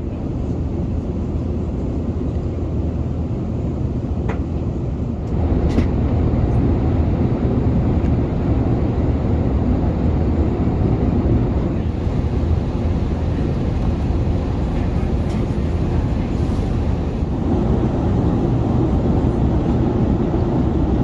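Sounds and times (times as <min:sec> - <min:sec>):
aircraft cabin roar: 0:00.0 - 0:21.0.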